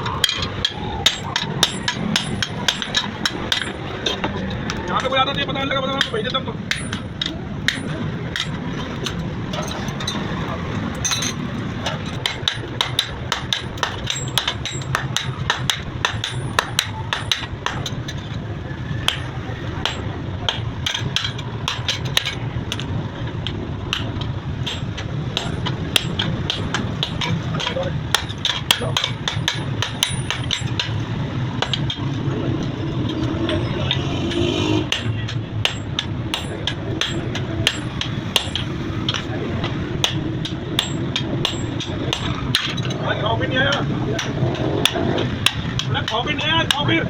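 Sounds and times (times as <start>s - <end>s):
hammer striking steel on anvil: 0.1s - 10.4s, 11.0s - 18.2s, 19.0s - 43.0s, 43.7s - 46.9s.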